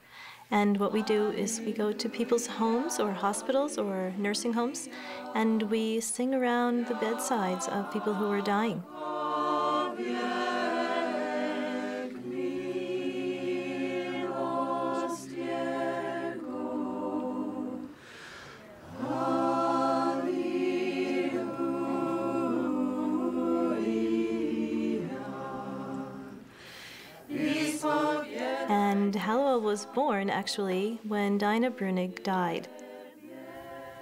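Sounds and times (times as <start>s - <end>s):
a cappella choir singing: 0.0s - 34.0s.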